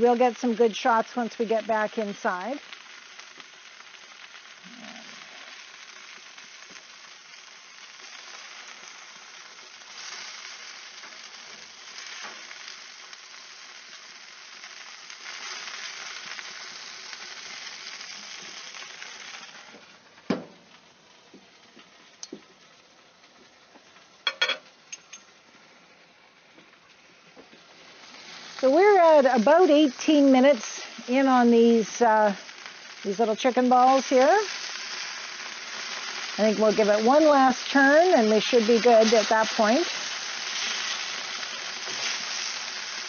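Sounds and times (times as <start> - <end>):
chicken sizzling on a grill: 0.0 - 43.0.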